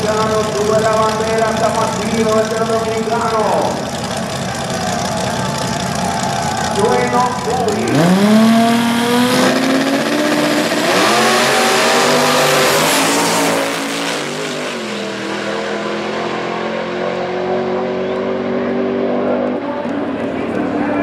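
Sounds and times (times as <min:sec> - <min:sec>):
drag cars accelerating at full throttle: 0:00.0 - 0:21.0.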